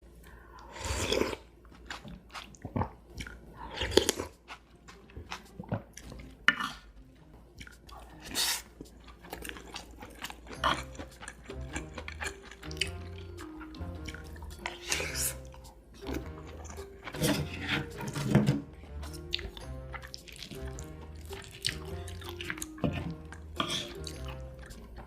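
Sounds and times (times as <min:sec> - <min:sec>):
chewing and biting food: 0:00.8 - 0:25.0.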